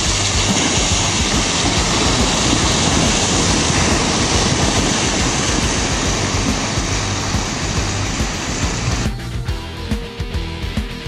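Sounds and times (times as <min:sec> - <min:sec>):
excavator diesel engine running: 0:00.0 - 0:09.9.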